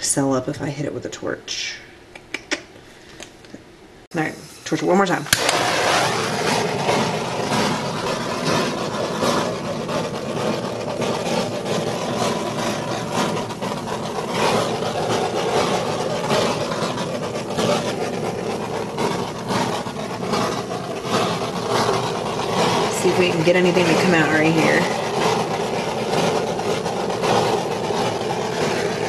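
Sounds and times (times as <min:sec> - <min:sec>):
gas torch flame rushing: 0:04.2 - 0:29.0.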